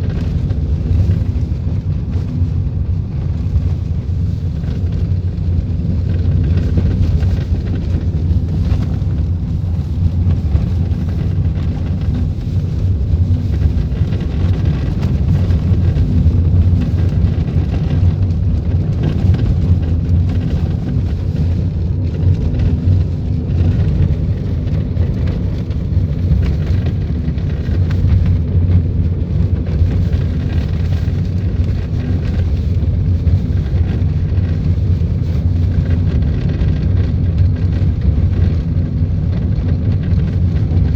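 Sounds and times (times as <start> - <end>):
car cabin road and engine rumble: 0.0 - 40.9.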